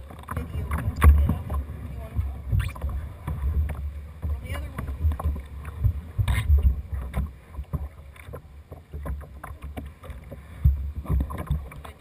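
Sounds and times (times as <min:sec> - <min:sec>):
water lapping on plastic hull: 0:00.0 - 0:12.0.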